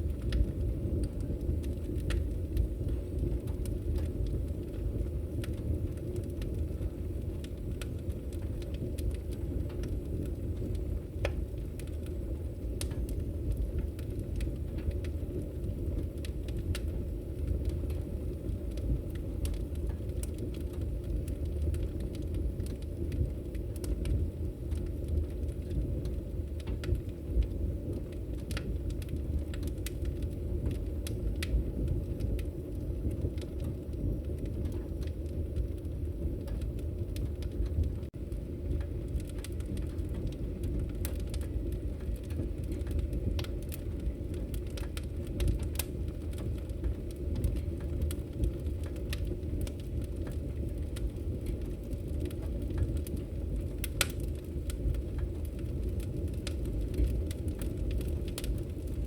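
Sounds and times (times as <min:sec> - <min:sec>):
fire rumbling: 0:00.0 - 0:59.0
wood crackling and popping: 0:00.0 - 0:59.0.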